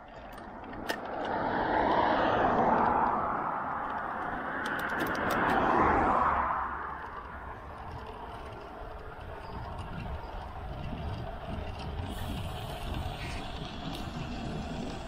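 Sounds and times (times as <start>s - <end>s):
tyres on asphalt: 0.0s - 15.0s
wind over camera: 0.0s - 15.0s.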